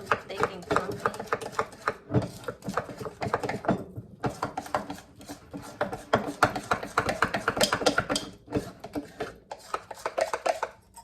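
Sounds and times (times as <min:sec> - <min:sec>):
batter beaten in a bowl: 0:00.0 - 0:11.0.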